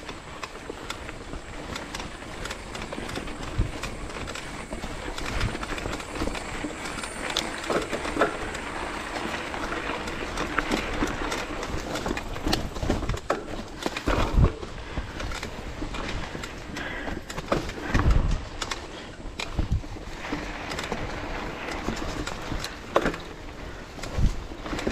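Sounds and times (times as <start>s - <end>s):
motorcycle knocks and rattles: 0.0s - 24.9s.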